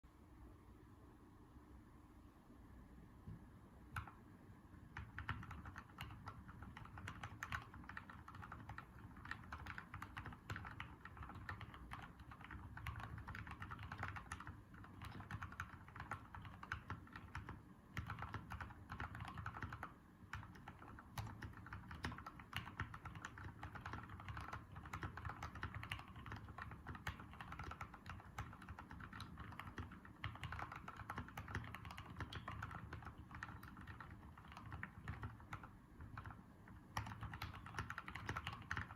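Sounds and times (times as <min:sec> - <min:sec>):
fast mechanical keyboard typing: 0:04.9 - 0:38.9.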